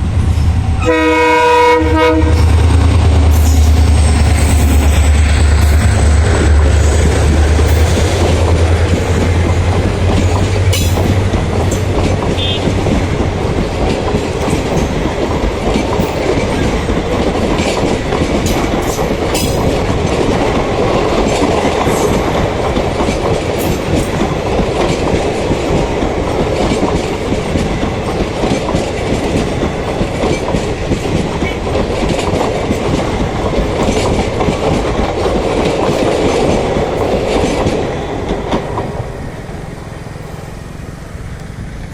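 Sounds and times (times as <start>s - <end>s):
train wheels clattering: 0.0s - 39.2s.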